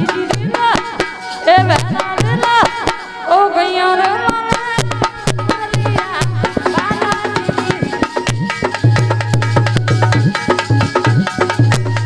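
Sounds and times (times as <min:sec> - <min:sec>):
hand drum beat: 0:00.0 - 0:03.0, 0:04.0 - 0:12.0.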